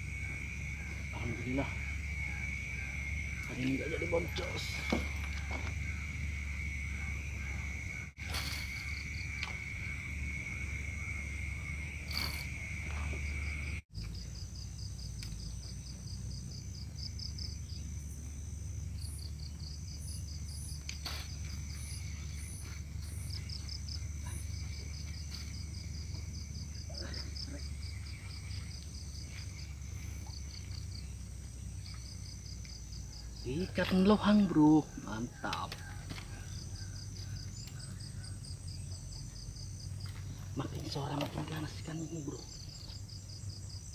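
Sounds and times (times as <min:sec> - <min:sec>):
insect high drone: 0:00.0 - 0:43.9
rapid insect chirps: 0:00.0 - 0:43.9
thin constant insect whine: 0:00.0 - 0:43.9.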